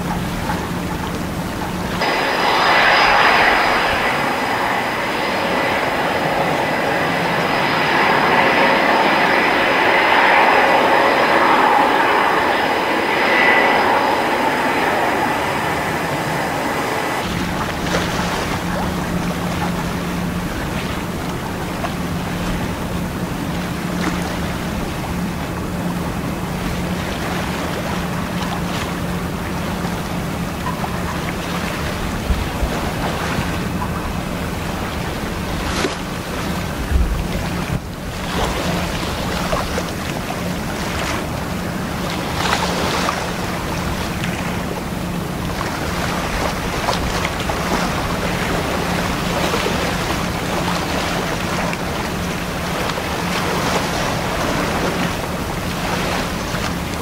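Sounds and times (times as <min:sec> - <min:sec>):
tugboat engine drone: 0:00.0 - 0:57.0
water rushing: 0:00.0 - 0:57.0
wind on microphone: 0:00.0 - 0:57.0.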